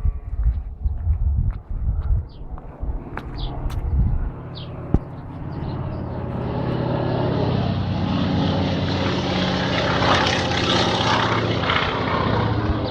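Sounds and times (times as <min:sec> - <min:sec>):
propeller plane engine: 0:02.2 - 0:12.9.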